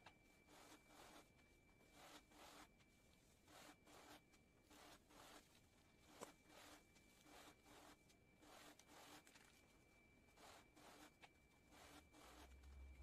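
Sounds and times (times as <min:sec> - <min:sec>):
faint rhythmic scraping: 0:00.0 - 0:13.0
faint steady high tone: 0:00.0 - 0:13.0.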